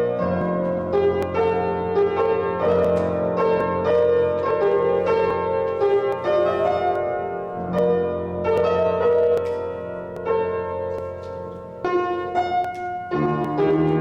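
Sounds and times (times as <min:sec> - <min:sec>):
slow keyboard music: 0:00.0 - 0:14.0.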